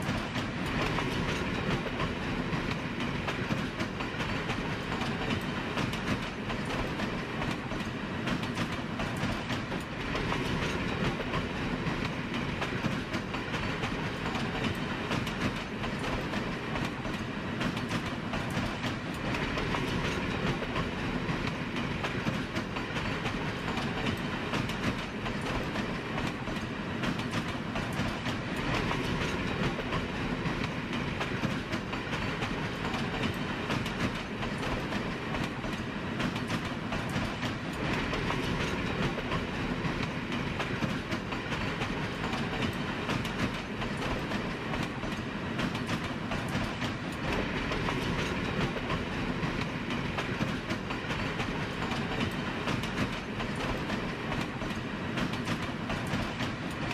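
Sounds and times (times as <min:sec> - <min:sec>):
fine clicks of rails: 0:00.0 - 0:56.9
train rumbling on rails: 0:00.0 - 0:56.9.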